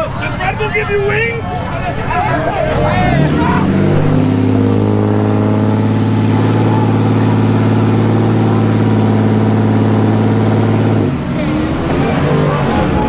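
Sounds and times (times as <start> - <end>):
pickup truck exhaust drone: 2.5 - 13.0.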